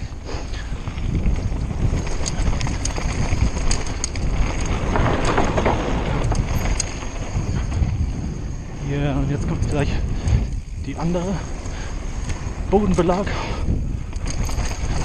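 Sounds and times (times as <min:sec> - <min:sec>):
bike chain rattling: 0:00.0 - 0:15.0
bike tyres rumbling on dirt: 0:00.0 - 0:15.0.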